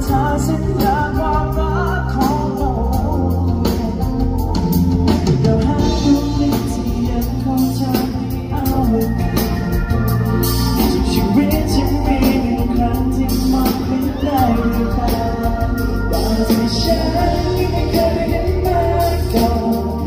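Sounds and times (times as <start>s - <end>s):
bass line: 0.0s - 20.0s
person singing: 0.0s - 20.0s.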